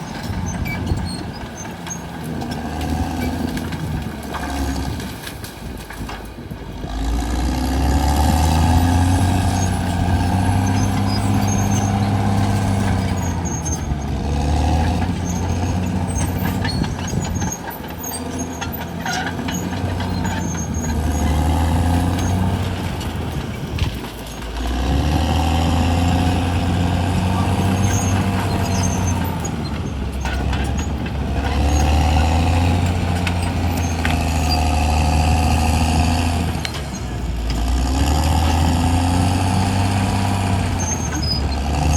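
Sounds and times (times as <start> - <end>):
bulldozer diesel engine under load: 0.0 - 41.9.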